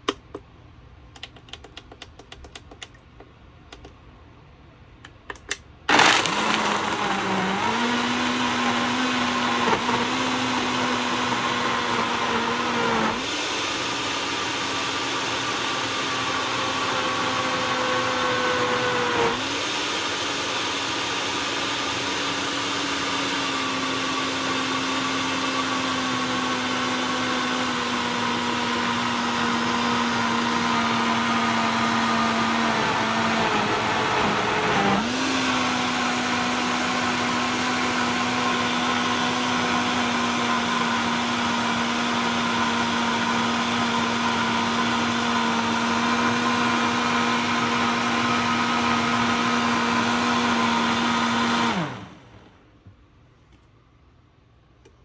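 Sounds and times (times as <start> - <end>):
blender motor running: 5.9 - 52.6.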